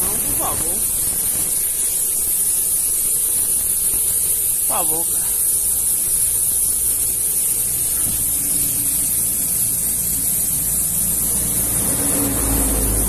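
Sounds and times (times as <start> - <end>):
air hissing from tyre: 0.0 - 13.0.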